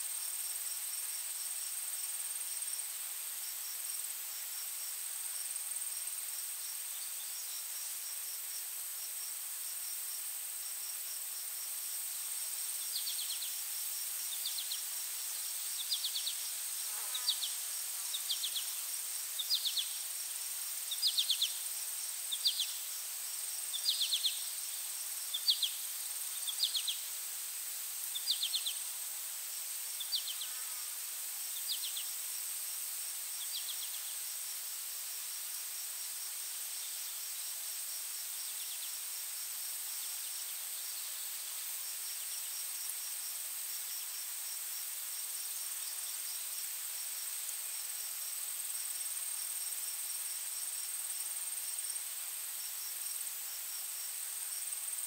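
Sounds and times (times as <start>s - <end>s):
soft background hiss: 0.0s - 55.0s
buzzy insect chirps: 3.6s - 52.0s.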